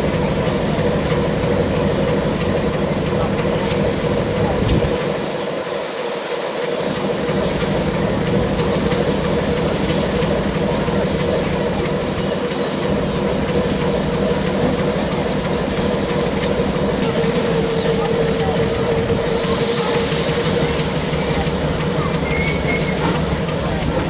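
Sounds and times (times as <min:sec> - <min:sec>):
locomotive engine drone: 0:00.0 - 0:24.0
wheels rumbling on rails: 0:00.0 - 0:24.0.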